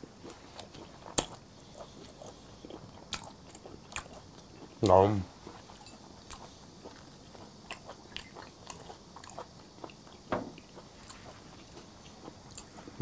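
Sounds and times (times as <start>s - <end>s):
person chewing wet smacks: 0.2s - 4.9s, 5.8s - 12.8s.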